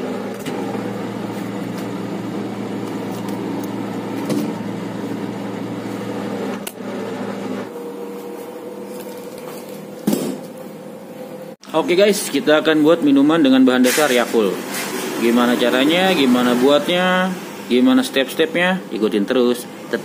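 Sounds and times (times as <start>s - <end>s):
refrigerator humming: 0.0s - 20.0s.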